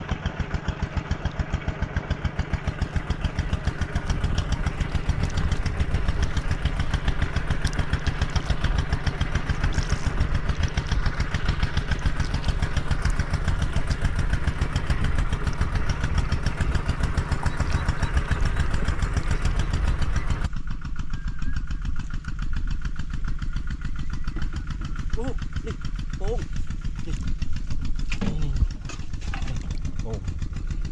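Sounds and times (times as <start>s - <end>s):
small engine running: 0.0s - 30.9s.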